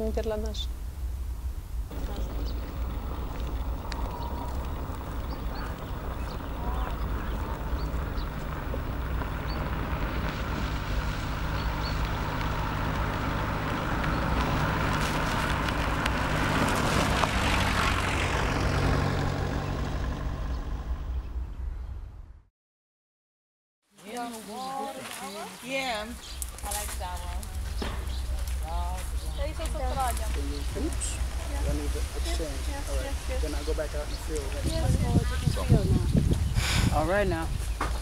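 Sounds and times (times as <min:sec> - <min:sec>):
vehicle engine humming: 0:00.0 - 0:22.5, 0:26.1 - 0:38.0.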